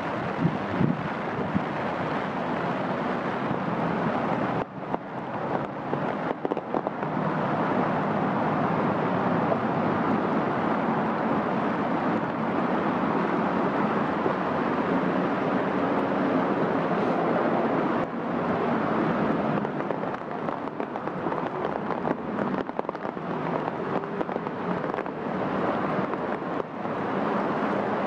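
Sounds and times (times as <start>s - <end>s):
rain falling on trees: 0.0s - 28.0s.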